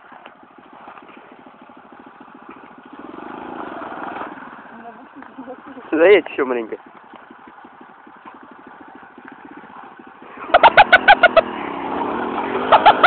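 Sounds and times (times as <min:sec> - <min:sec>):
motorcycle engine idling: 0:00.0 - 0:13.0
motorcycle revving and pulling away: 0:00.0 - 0:13.0.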